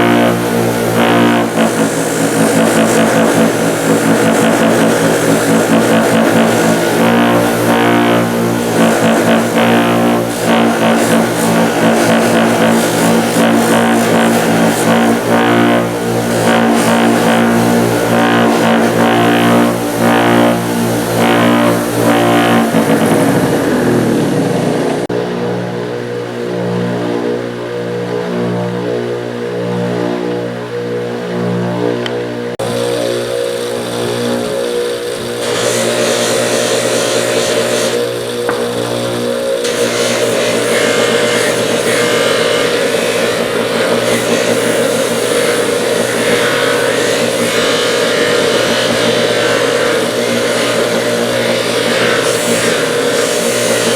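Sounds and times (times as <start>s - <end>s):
metal grinding on wheel: 0.0s - 25.1s, 32.6s - 53.9s
electric motor humming: 0.0s - 25.2s, 31.3s - 53.9s.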